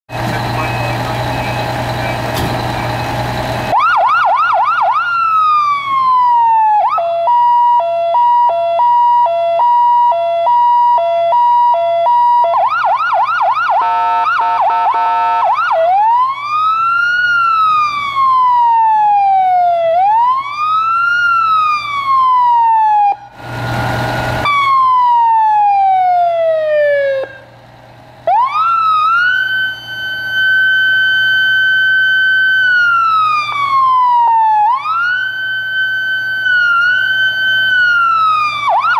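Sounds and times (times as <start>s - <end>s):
electronic siren cycling tones: 0.4s - 27.5s, 28.3s - 38.9s.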